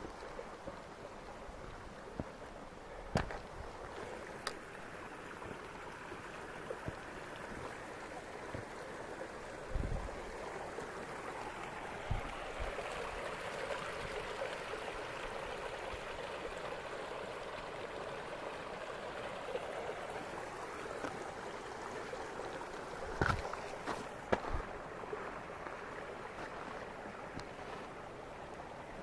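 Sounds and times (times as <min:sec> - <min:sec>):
creek splashing over rocks: 0:00.0 - 0:29.0.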